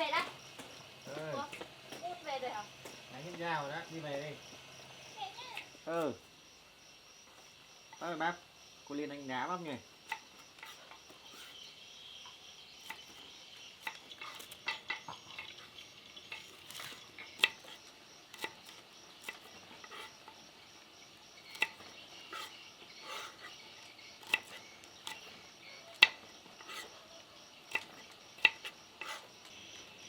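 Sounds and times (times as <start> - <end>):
crickets chirring: 0.0 - 30.0.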